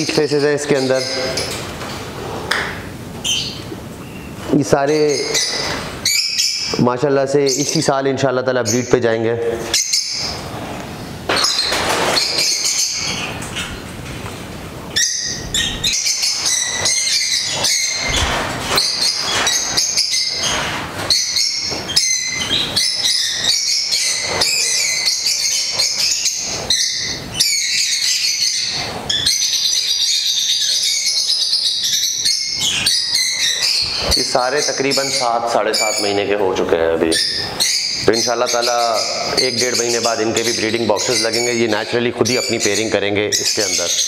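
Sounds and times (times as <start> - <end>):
lovebirds chirping: 0.0 - 14.0, 14.9 - 44.0.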